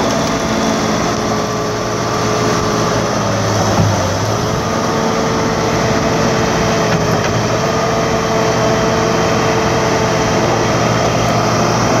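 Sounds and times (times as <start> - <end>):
constant whine: 0.0 - 12.0
heavy diesel engines running: 0.0 - 12.0.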